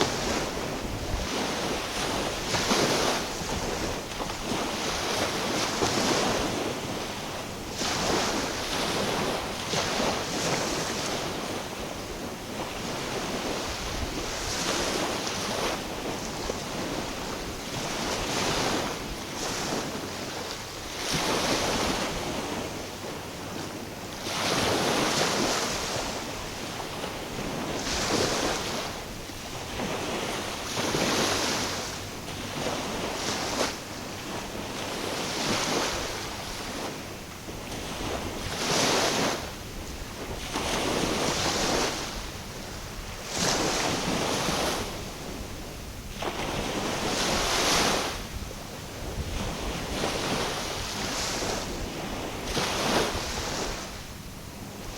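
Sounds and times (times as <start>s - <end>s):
small waves washing against shore: 0.0s - 54.9s.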